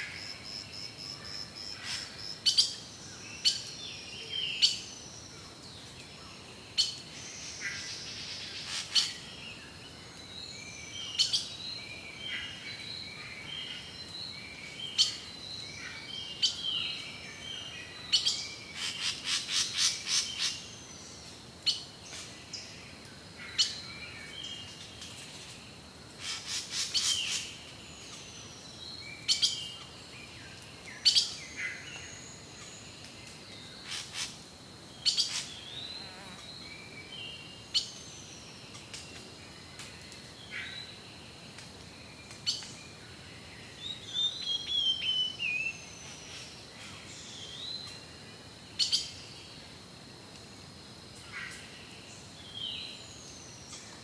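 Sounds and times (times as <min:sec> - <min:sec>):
insects humming: 0:00.0 - 0:54.0.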